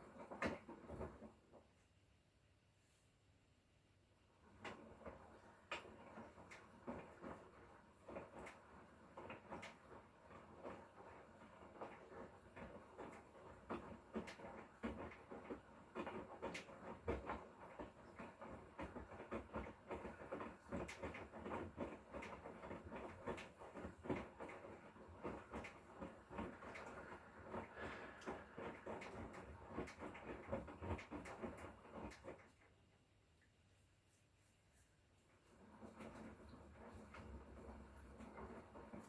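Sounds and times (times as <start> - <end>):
washing machine drum tumbling laundry: 0.0 - 1.9, 4.2 - 33.1, 35.2 - 39.0.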